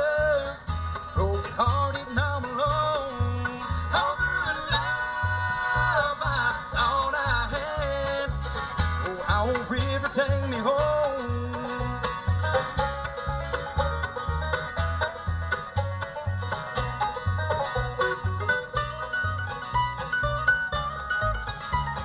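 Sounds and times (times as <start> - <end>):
acoustic guitar: 0.0 - 22.0
banjo picking: 0.0 - 22.0
upright bass: 0.0 - 22.0.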